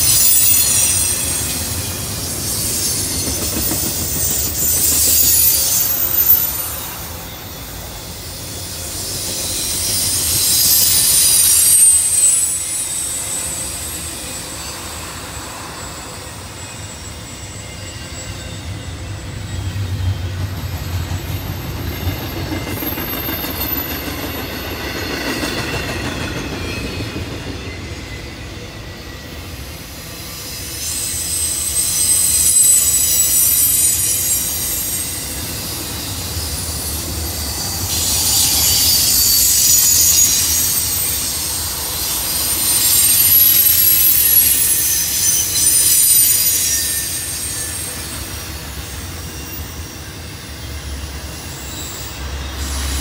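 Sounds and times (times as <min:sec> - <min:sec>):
train rumbling by: 0:00.0 - 0:53.0
train wheels squealing: 0:00.0 - 0:53.0.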